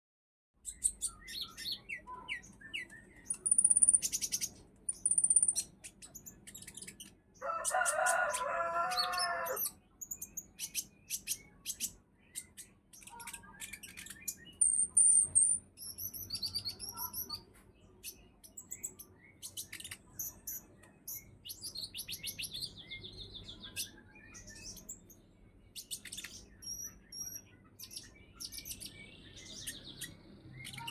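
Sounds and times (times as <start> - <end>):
sunbird chirps and trills: 0.6 - 30.9.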